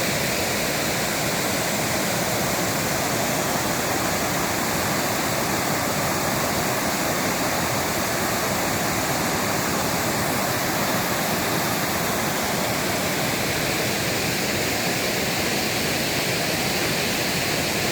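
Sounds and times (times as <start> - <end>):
stream rushing: 0.0 - 17.9.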